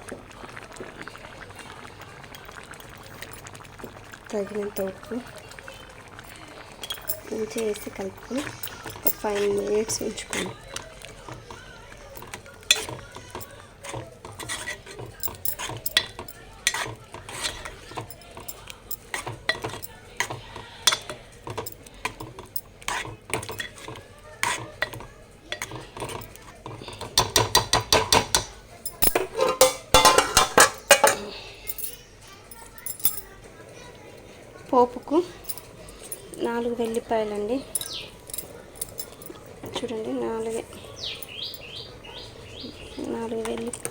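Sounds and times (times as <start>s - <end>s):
spoon stirring and scraping pot: 0.8s - 43.9s
spoon clinking on pot: 2.3s - 4.0s, 6.1s - 33.5s, 35.1s - 43.9s.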